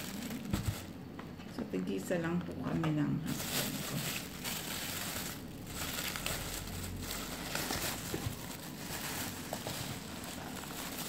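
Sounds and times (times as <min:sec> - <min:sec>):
plastic bag rustling: 0:00.0 - 0:01.2, 0:03.2 - 0:11.0.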